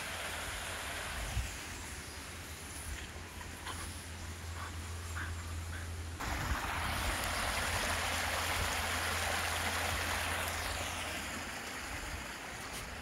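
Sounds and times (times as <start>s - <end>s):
brook water running: 0.0s - 13.0s.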